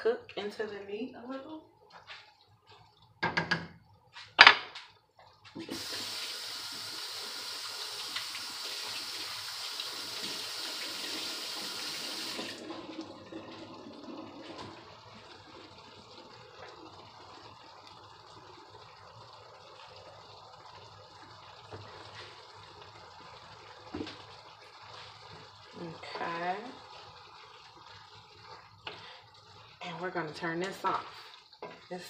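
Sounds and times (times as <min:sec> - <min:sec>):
kitchen faucet running: 0:05.5 - 0:32.0.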